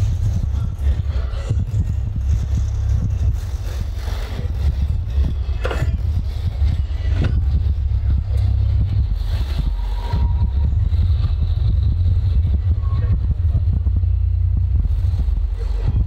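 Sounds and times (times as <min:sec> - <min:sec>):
motor vehicle engine and road noise: 0:00.0 - 0:16.0.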